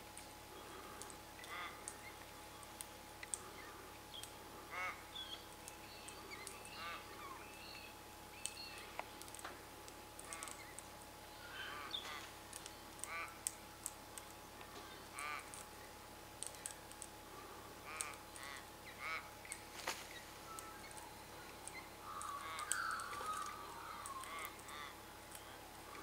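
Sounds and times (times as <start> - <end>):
birds calling: 0.4 - 26.0
birds chattering: 0.4 - 26.0.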